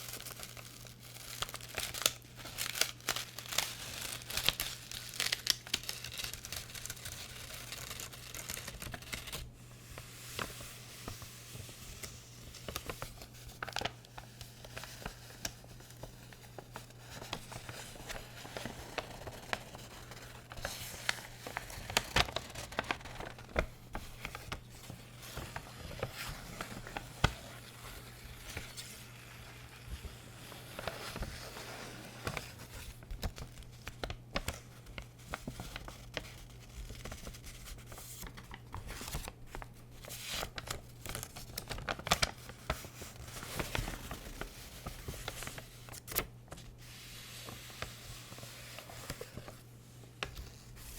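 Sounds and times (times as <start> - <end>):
packaging crinkling: 0.0 - 9.4, 10.3 - 46.8.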